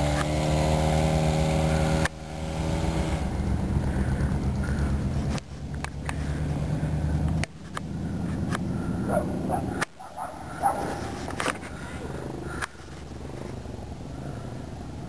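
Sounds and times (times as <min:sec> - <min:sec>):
distant car engine revving: 0:00.0 - 0:15.0.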